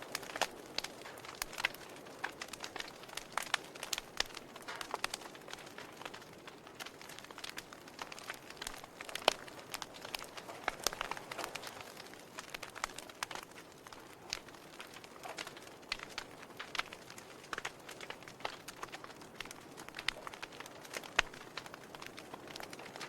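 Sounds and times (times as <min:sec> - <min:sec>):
fire pops and snaps: 0:00.0 - 0:23.0
wood fire crackling: 0:00.0 - 0:23.0.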